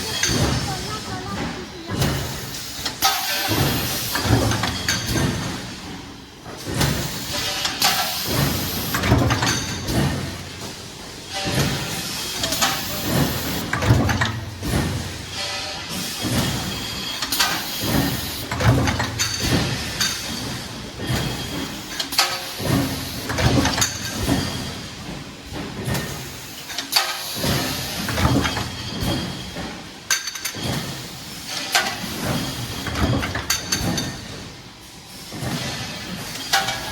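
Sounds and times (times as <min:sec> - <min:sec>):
press metallic clanks and thumps: 0:00.0 - 0:36.9.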